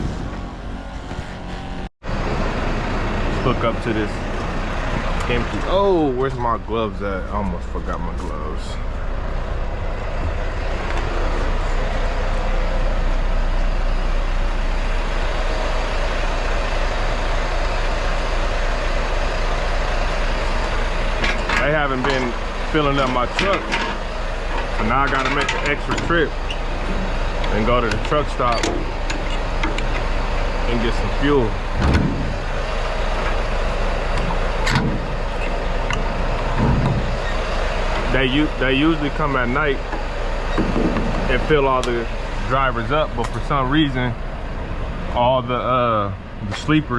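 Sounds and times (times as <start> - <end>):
diesel truck engine running: 0.0 - 46.9.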